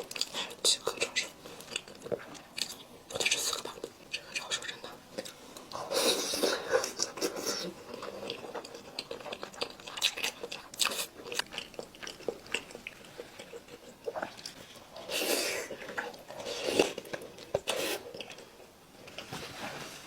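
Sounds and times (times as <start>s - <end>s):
person chewing wet mouth sounds: 0.0s - 18.6s.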